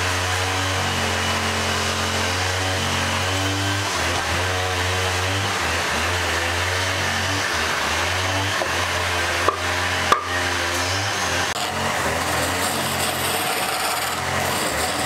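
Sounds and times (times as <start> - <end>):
wood lathe running: 0.0 - 15.0.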